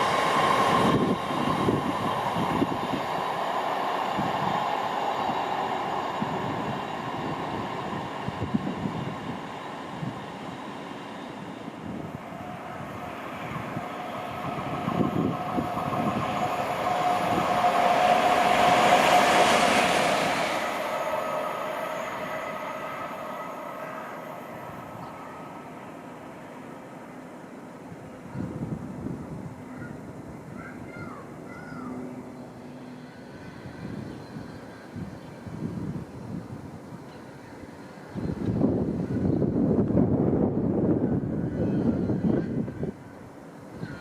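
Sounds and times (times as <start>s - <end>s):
train rumble: 0.0s - 44.0s
train running noise with whine: 0.0s - 44.0s.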